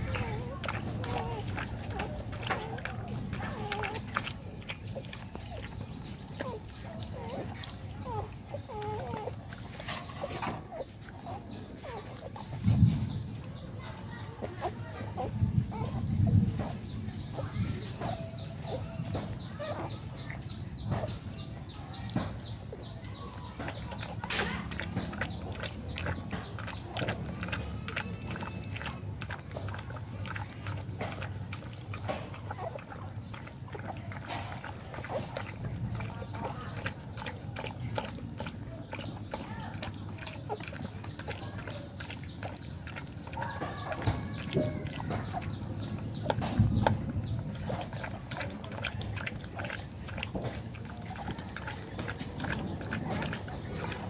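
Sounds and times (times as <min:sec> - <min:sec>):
dog lapping food: 0:00.0 - 0:54.0
puppies suckling: 0:00.0 - 0:54.0.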